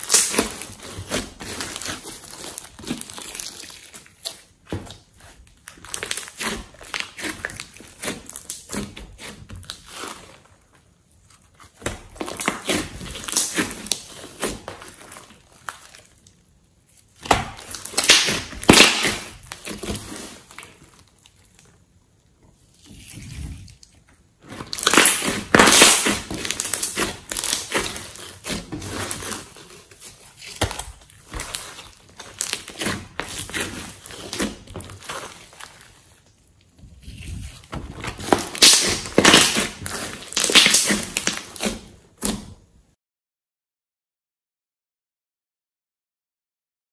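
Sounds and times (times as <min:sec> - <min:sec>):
slime crackling and popping: 0:00.0 - 0:10.6, 0:11.5 - 0:21.9, 0:22.7 - 0:42.4.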